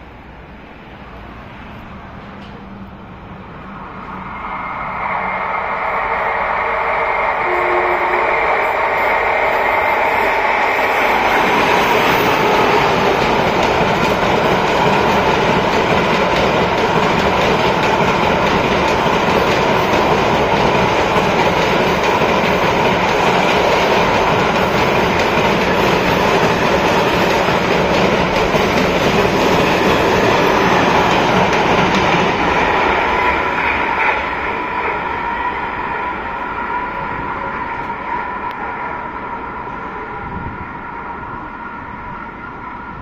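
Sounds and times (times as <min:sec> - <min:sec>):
freight train passing: 0:00.0 - 0:43.0.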